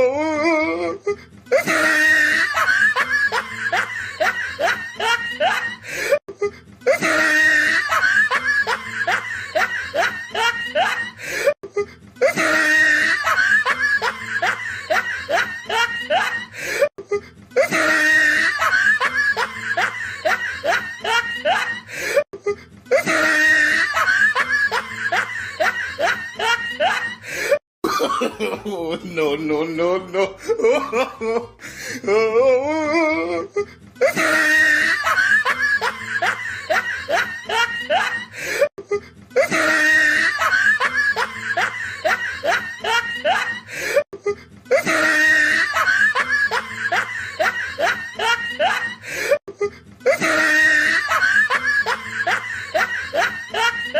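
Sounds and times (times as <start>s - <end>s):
evil laugh: 1.1s - 28.9s, 30.2s - 49.4s, 50.0s - 53.9s.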